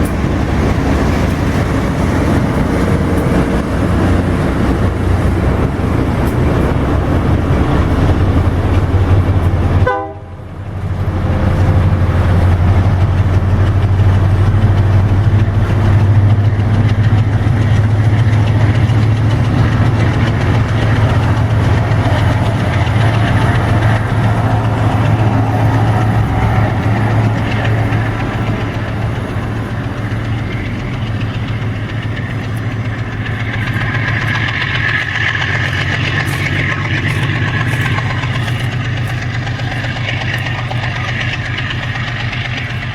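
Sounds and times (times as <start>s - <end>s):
locomotive engine drone: 0.0s - 42.9s
train wheels on rails: 0.0s - 42.9s.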